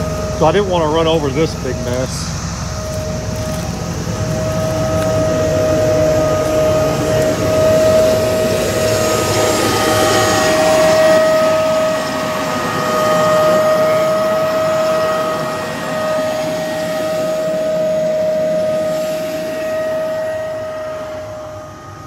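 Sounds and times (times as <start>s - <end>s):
constant high whine: 0.0s - 22.0s
tractor running: 0.0s - 22.0s.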